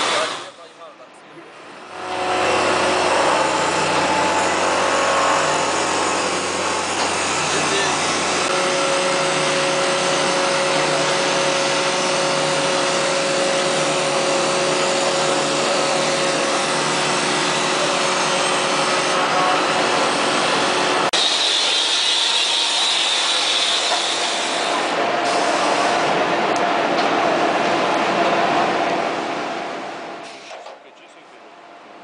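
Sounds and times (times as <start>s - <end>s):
wood-turning lathe machining: 0.0s - 0.7s, 1.9s - 27.2s.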